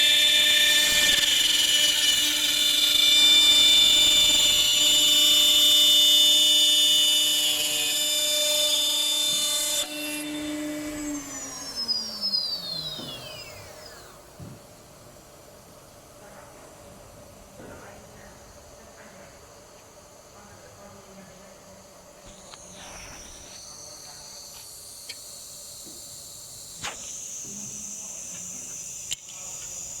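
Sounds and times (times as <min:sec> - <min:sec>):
machine spindle whining: 0:00.0 - 0:14.6, 0:20.0 - 0:30.0.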